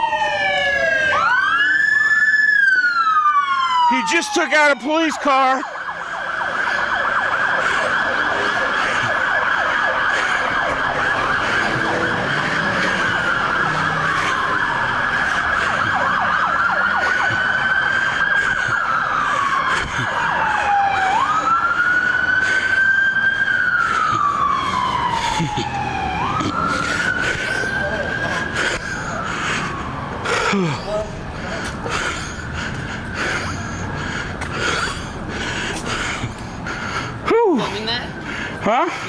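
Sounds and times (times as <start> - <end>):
police siren pulsing tone: 0.0 - 39.0
police siren wailing: 0.0 - 39.0.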